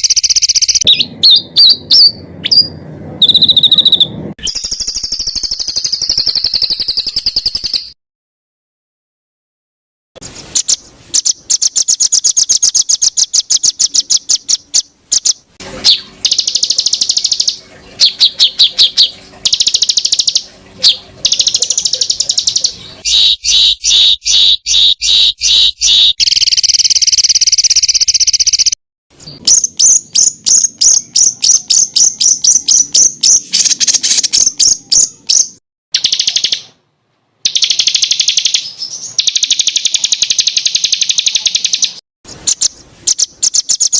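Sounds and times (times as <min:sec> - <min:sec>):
songbird singing rapid sharp notes: 0:00.0 - 0:08.0, 0:10.4 - 0:36.8, 0:37.4 - 0:43.9.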